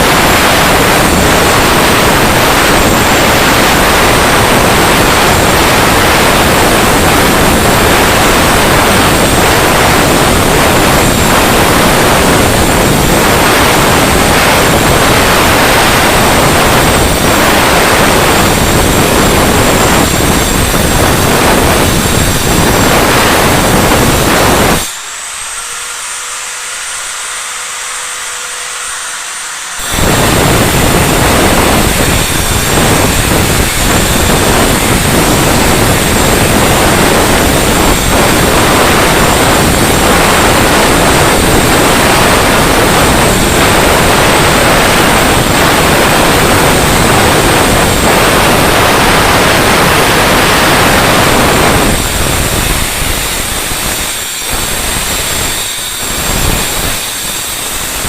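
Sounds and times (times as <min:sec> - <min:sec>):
power tool cutting or grinding: 0:00.0 - 0:58.0.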